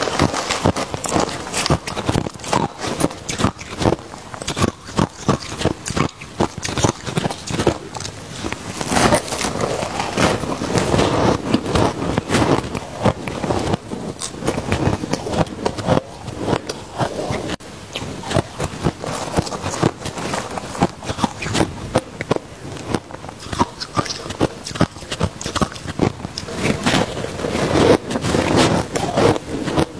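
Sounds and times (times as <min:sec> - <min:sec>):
ice being chewed: 0:00.0 - 0:29.9.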